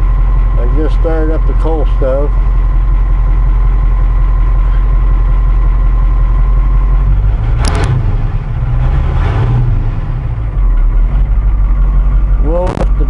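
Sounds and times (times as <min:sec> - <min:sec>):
diesel truck idling without muffler: 0:00.0 - 0:13.0.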